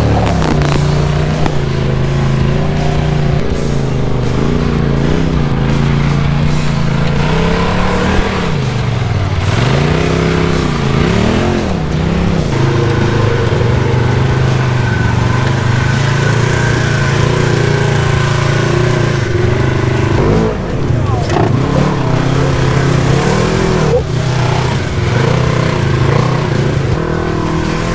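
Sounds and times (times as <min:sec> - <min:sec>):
engine revving: 0:00.0 - 0:27.9.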